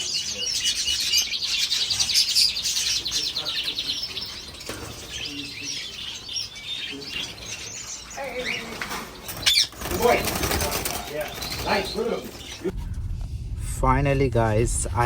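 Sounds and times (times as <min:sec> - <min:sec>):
caged birds chirping: 0:00.0 - 0:12.8.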